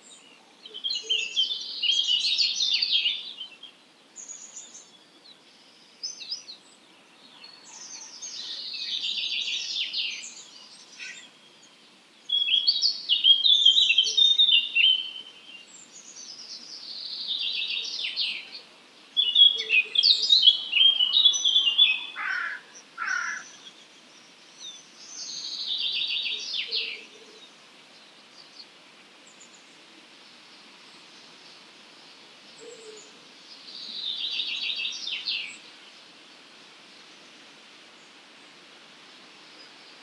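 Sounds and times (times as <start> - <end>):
songbirds singing: 0.0 - 38.6
faint outdoor background noise: 0.0 - 40.0.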